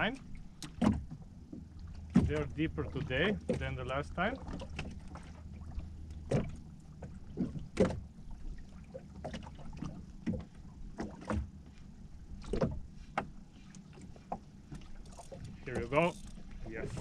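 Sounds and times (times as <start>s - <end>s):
waves slapping against boat hull: 0.0s - 17.0s.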